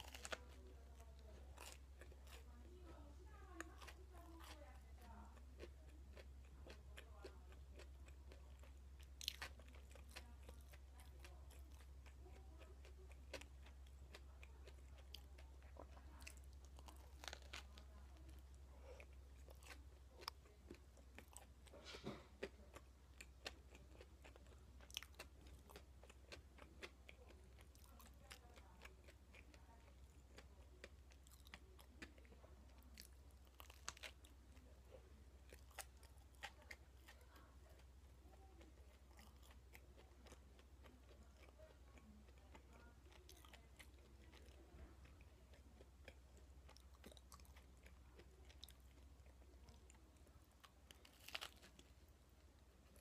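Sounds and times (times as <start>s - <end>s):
chewing toast crunches: 0.0s - 53.0s.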